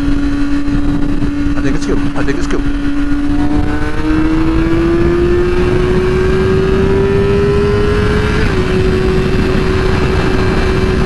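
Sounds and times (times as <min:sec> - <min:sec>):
wind rush on microphone: 0:00.0 - 0:11.0.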